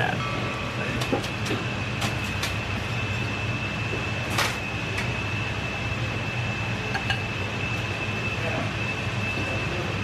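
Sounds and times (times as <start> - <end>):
kitchen machinery hum: 0.0 - 10.0.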